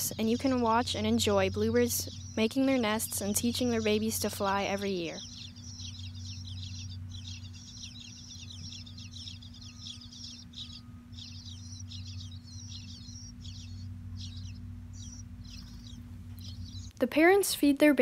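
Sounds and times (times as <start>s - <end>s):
nestlings begging calls: 0.0s - 17.0s
steady low hum: 0.0s - 18.0s.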